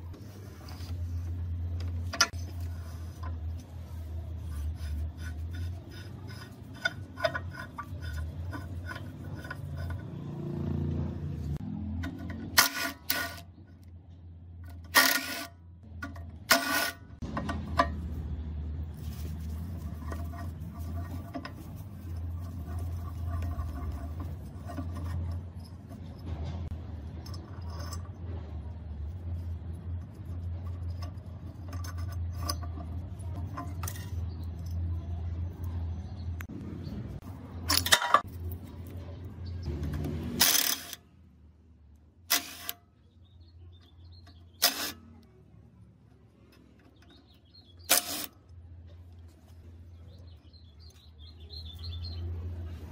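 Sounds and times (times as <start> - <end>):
metal tools clicking and scraping: 0.0 - 10.7, 11.5 - 36.5, 37.2 - 41.1, 42.2 - 45.4, 46.1 - 52.4.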